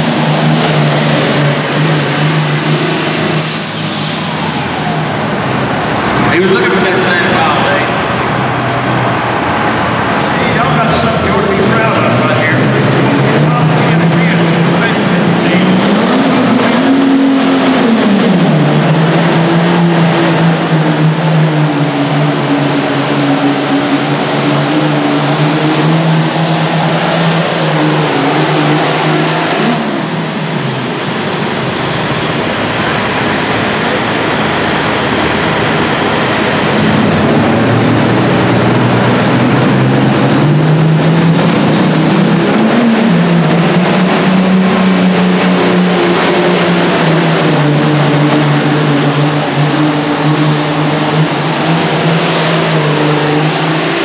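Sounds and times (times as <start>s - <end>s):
diesel tractor engine at full throttle: 0.0s - 54.0s
turbo whine: 0.0s - 54.0s.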